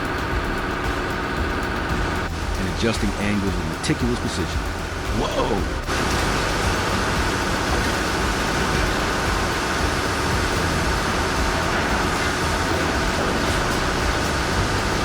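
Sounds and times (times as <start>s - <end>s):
heavy machinery running: 0.0s - 15.0s.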